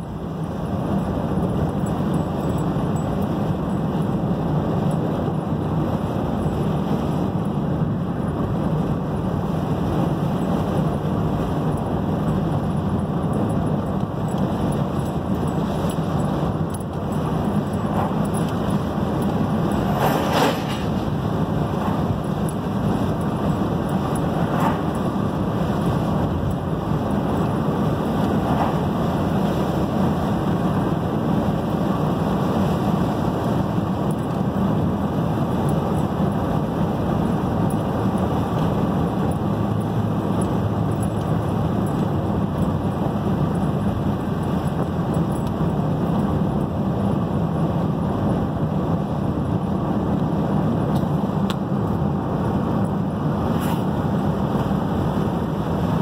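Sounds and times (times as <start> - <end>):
car engine and tyre hum: 0.0 - 56.0.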